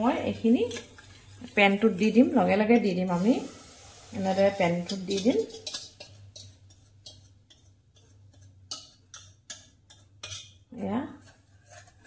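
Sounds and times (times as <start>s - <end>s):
wire whisk scraping a pan: 0.6s - 3.3s, 4.2s - 12.0s.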